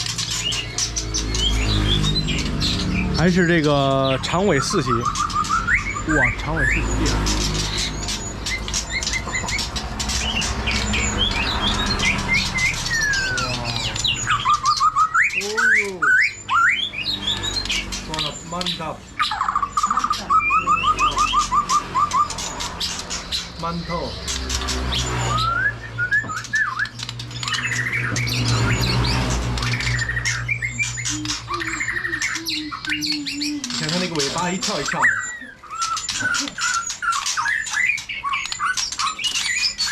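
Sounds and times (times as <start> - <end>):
bird whistles: 0.0 - 39.9
songbirds chirping: 0.0 - 39.9.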